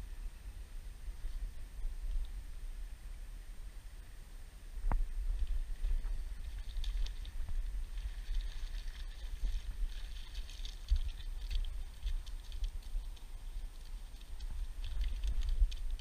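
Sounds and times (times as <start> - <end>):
low microphone rumble: 0.0 - 16.0.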